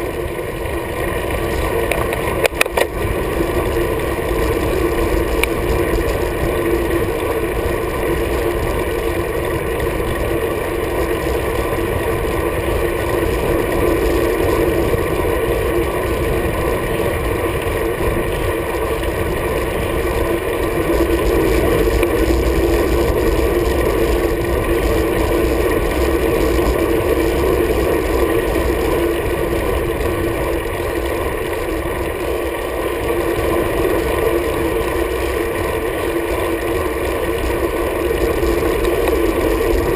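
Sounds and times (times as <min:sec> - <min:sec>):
droning hum: 0:00.0 - 0:39.9
wind and road noise: 0:00.0 - 0:39.9.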